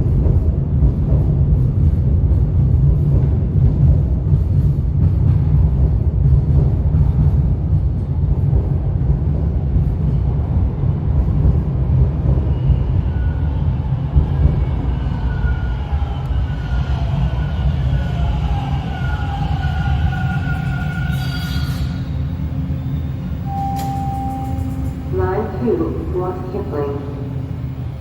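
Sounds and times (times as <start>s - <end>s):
subway train rumbling: 0.0s - 28.0s.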